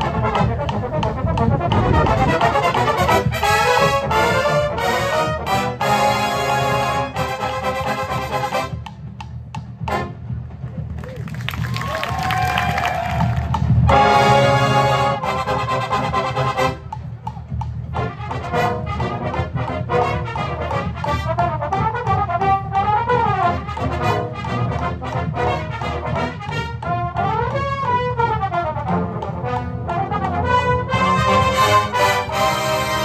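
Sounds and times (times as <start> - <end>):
brass hornline playing: 0.0 - 9.0, 9.8 - 17.2, 17.9 - 33.0.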